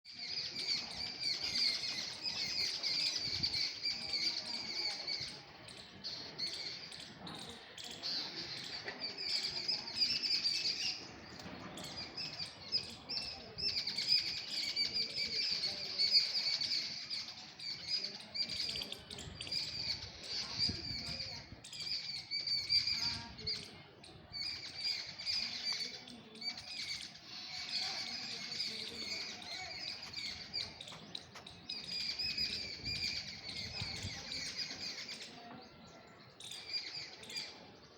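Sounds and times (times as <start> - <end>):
small birds chirping and twittering: 0.0 - 37.9.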